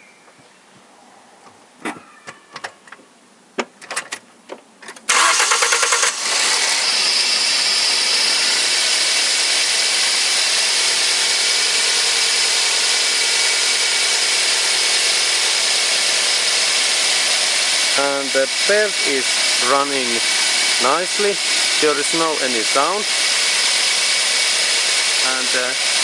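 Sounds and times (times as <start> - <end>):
car engine cranking: 4.9 - 26.0
car engine idling: 5.1 - 26.0.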